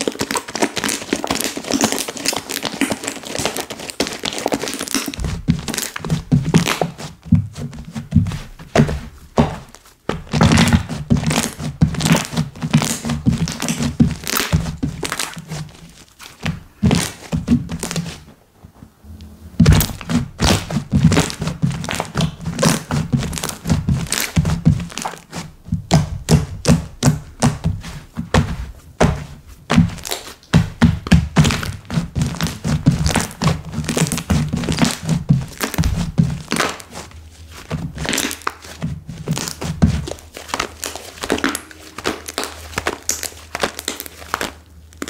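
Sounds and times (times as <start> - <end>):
slime squishing by hand: 0.0 - 45.0.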